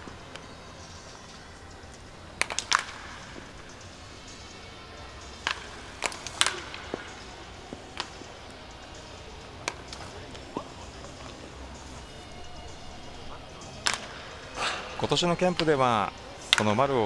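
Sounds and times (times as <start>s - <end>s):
wooden bat cracking ball: 1.3s - 4.4s, 5.2s - 14.6s, 15.5s - 16.9s.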